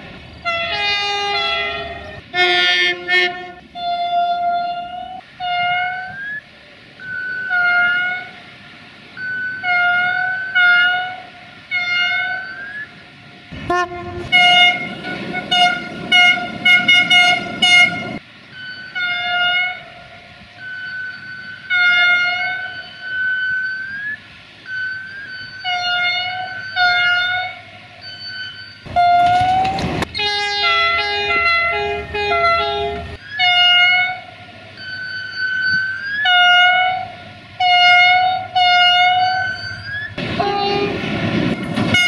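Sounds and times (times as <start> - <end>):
train horn blasts: 0.4 - 6.4, 7.1 - 8.4, 9.2 - 12.9, 13.6 - 18.2, 18.8 - 20.0, 20.7 - 23.8, 25.5 - 27.7, 28.9 - 34.4, 35.5 - 42.0.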